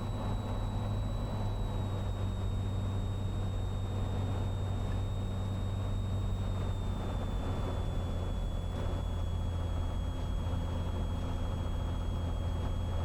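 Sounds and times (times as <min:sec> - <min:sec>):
faint whine sinking in pitch: 0:00.0 - 0:13.0
propeller plane engine droning: 0:00.0 - 0:13.0.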